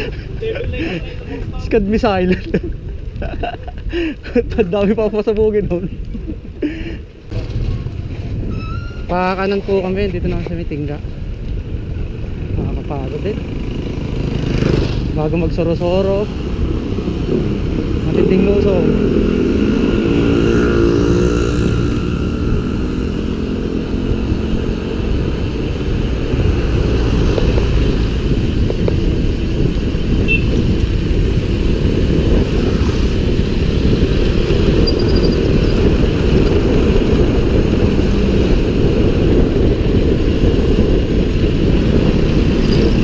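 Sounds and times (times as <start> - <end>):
wind rumbling on microphone: 0.0 - 43.0.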